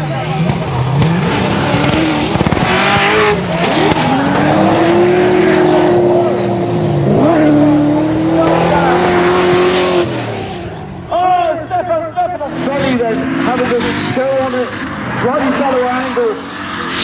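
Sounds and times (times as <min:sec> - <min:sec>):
car engine revving high: 0:00.0 - 0:17.0
tyres skidding on tarmac: 0:00.0 - 0:17.0.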